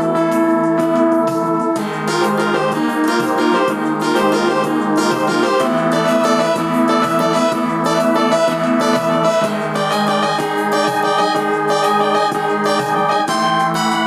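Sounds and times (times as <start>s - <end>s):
electronic keyboard melody: 0.0s - 14.0s.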